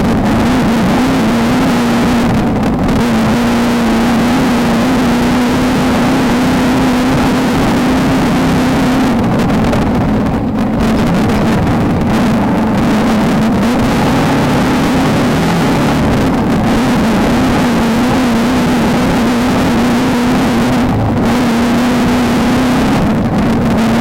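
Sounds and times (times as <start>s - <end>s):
race car engine running hard: 0.0s - 24.0s.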